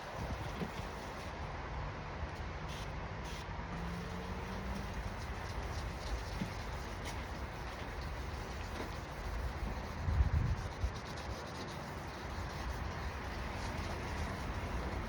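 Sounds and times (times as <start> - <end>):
sandpaper rubbing plastic: 0.0 - 1.3, 3.8 - 15.0.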